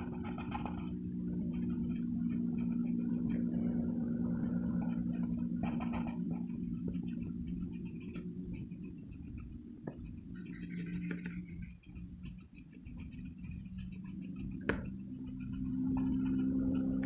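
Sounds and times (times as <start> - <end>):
low electrical hum: 0.0 - 17.0
pencil scratching on paper: 0.0 - 17.0.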